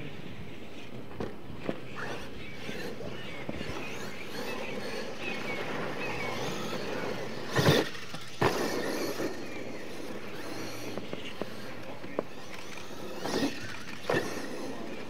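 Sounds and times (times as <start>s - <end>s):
toy truck motor revving: 1.9s - 15.0s.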